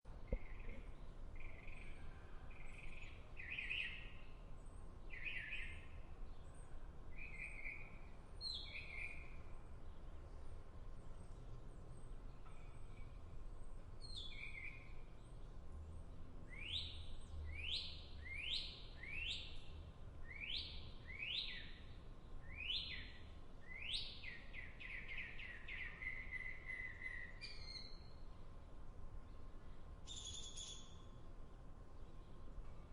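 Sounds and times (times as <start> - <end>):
songbird chirping and trilling: 0.1 - 32.9.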